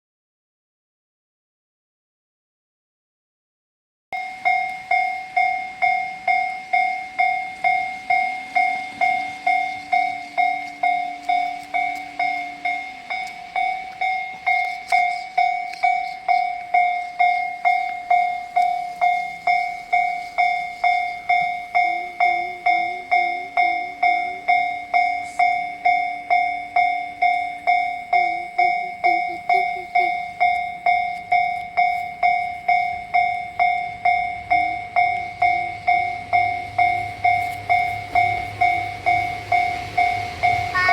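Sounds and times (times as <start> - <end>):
level crossing warning bell: 4.2 - 40.9.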